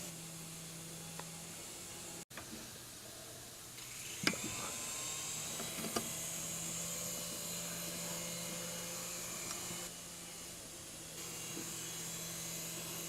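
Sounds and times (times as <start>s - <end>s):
small electric motor whining: 0.0s - 2.6s, 3.8s - 13.0s.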